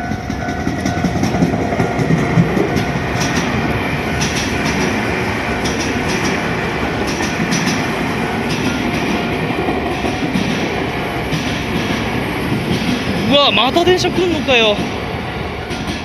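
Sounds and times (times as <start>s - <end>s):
wheels clicking over rail joints: 0.0s - 15.0s
train wheels rumbling on rail: 0.0s - 16.0s.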